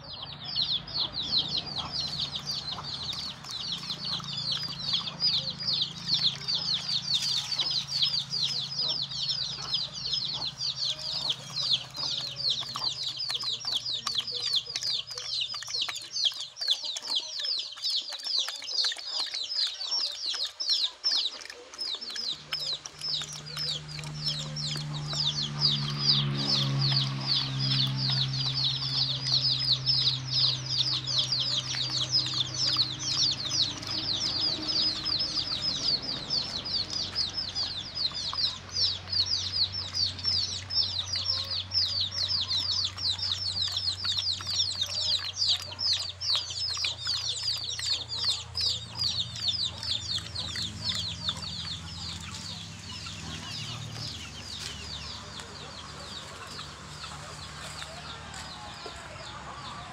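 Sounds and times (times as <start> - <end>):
high-pitched bird chirping: 0.0 - 59.3.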